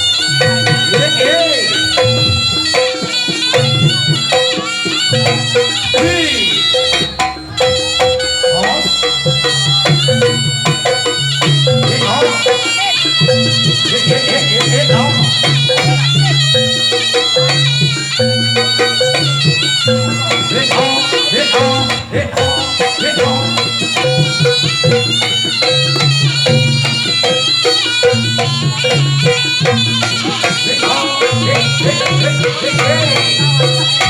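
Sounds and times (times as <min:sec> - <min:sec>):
drums and gongs beat: 0:00.0 - 0:34.0
shrill reedy shawm melody: 0:00.0 - 0:34.0.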